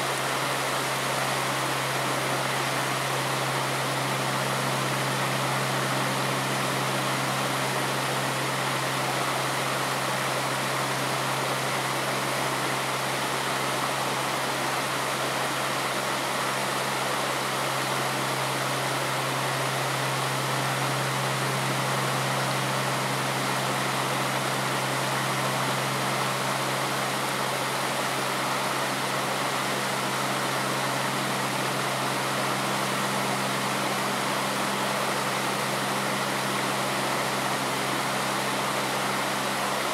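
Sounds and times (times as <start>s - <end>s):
low steady hum: 0.0s - 39.9s
stream water rushing: 0.0s - 39.9s.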